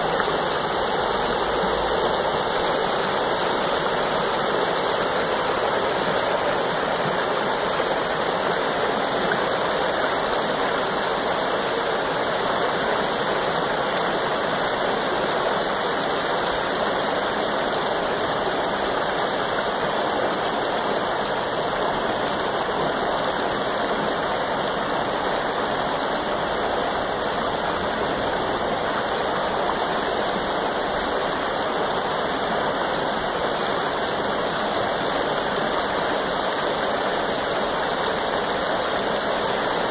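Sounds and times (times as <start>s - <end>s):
creek rippling over stones: 0.0s - 39.9s.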